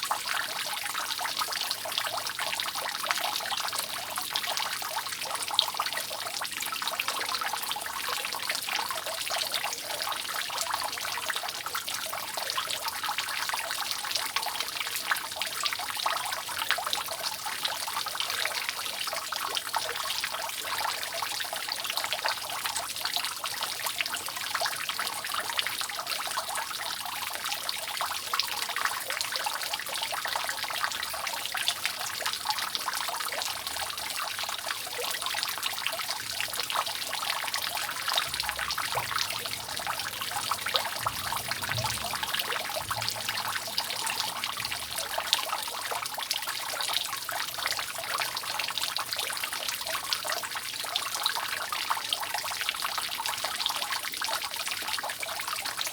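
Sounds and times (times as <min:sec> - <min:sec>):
rainwater dripping off roof: 0:00.0 - 0:55.9
water trickling: 0:00.0 - 0:55.9.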